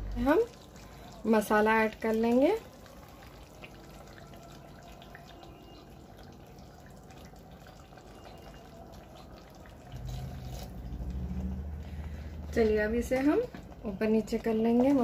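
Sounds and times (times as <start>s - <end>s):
chicken sizzling: 0.0s - 15.0s.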